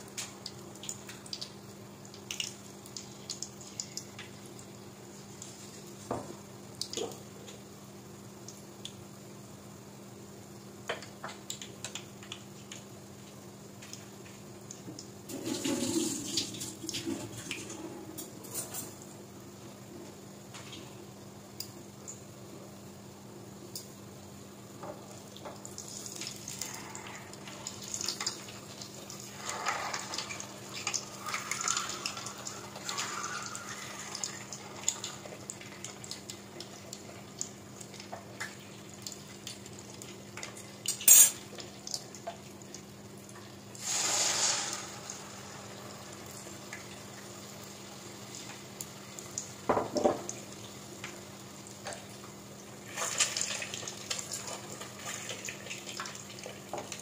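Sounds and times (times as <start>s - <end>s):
eggs deep-frying in oil: 0.0s - 57.0s.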